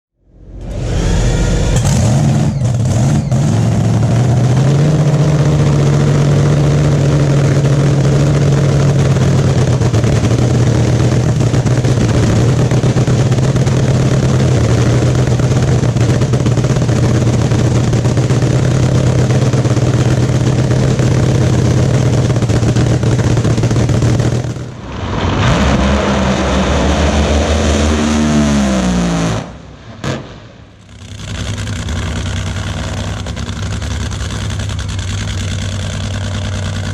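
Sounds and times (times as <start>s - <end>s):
dragster engine cackling idle: 0.6s - 24.7s, 30.8s - 36.9s.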